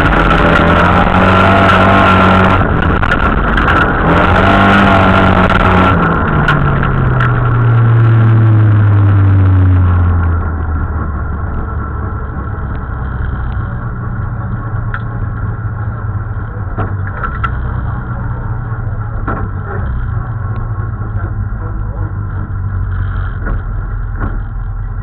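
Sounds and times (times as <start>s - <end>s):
rally car engine from cabin: 0.0s - 25.0s.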